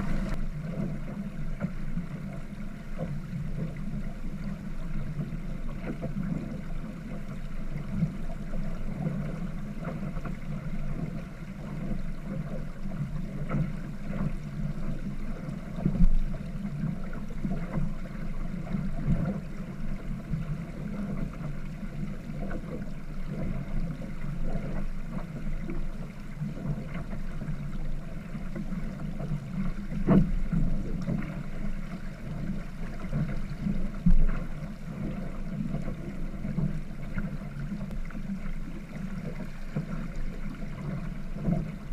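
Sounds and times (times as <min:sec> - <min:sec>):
water rushing along hull: 0:00.0 - 0:41.9
wind: 0:00.0 - 0:41.9.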